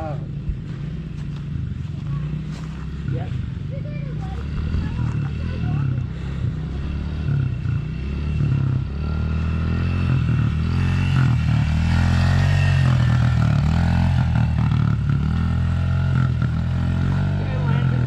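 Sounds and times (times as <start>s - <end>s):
small four-stroke engine running: 0.0s - 18.0s.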